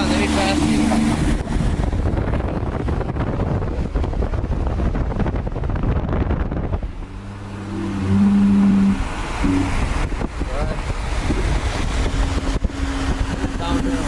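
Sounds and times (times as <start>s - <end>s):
car moving at speed: 0.0s - 14.0s
low engine drone: 0.0s - 14.0s
wind buffeting microphone: 0.0s - 14.0s.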